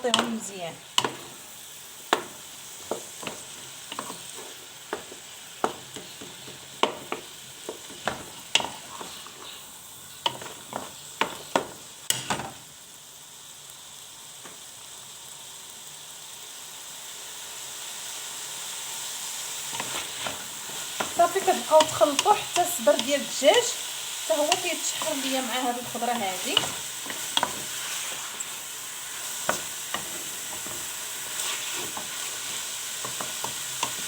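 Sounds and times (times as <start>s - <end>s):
food sizzling in oil: 0.0s - 34.0s.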